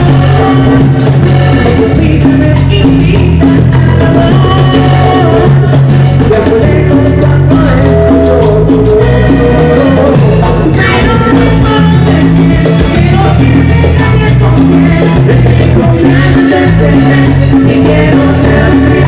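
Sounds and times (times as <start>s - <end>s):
live cumbia band playing: 0.0s - 19.0s
male singer: 0.0s - 19.0s.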